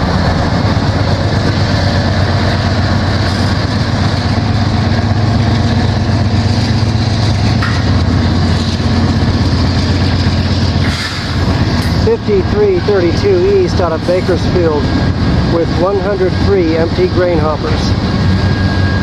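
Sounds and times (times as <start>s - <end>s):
diesel locomotive drone: 0.0s - 19.0s
freight cars rumbling on track: 0.0s - 19.0s.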